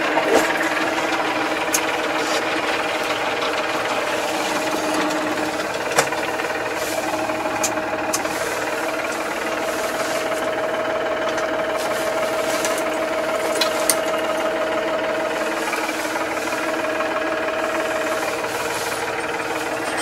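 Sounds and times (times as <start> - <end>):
steady mechanical whine: 0.0 - 20.0
tractor engine running: 0.0 - 20.0.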